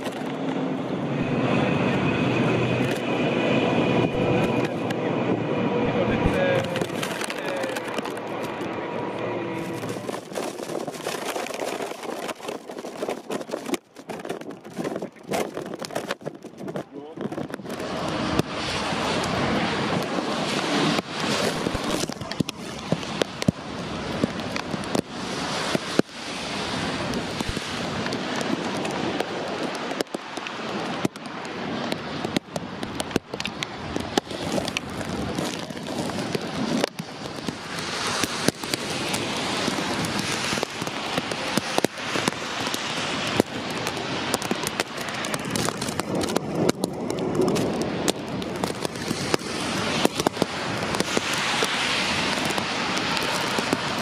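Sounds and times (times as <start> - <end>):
raindrops clicking near microphone: 5.9 - 54.0
rain falling steadily: 6.1 - 54.0.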